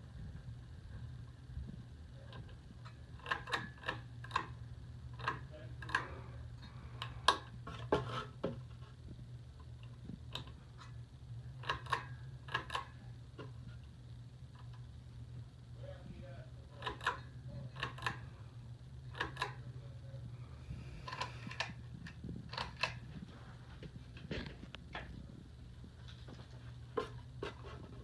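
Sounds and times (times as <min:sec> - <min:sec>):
ceiling fan hum: 0:00.0 - 0:28.0.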